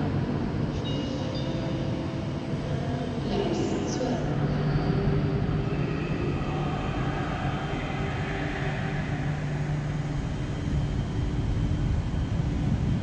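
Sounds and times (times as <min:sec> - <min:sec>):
faint high whine: 0:00.0 - 0:13.0
train rumbling and humming: 0:00.0 - 0:13.0.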